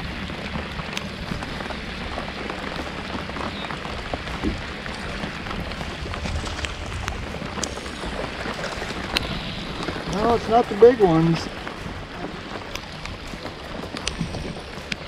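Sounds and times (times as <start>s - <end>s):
low rumble: 0.0s - 15.0s
rain on lake and boat: 0.0s - 15.0s.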